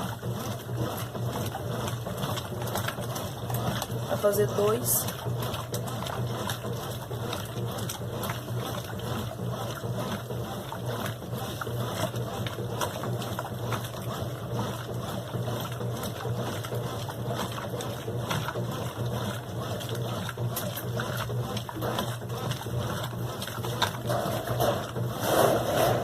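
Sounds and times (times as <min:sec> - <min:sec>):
washing machine humming: 0:00.0 - 0:26.0
water sloshing in drum: 0:00.0 - 0:26.0.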